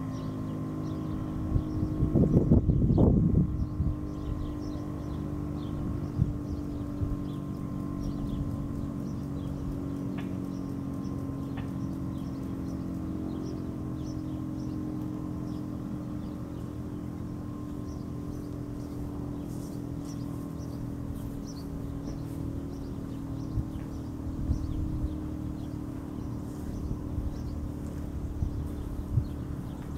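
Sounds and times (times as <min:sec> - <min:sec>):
birds chirping: 0:00.0 - 0:29.9
low outdoor hum: 0:00.0 - 0:29.9.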